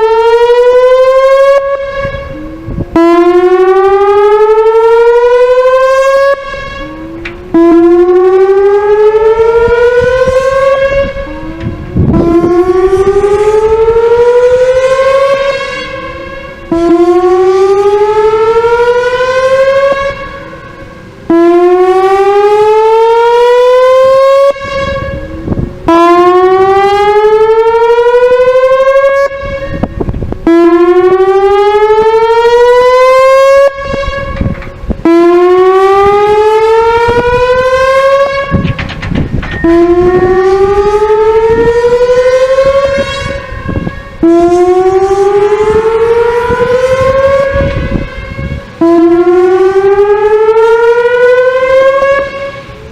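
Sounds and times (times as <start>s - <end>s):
tornado siren rising and falling: 0.0s - 52.9s.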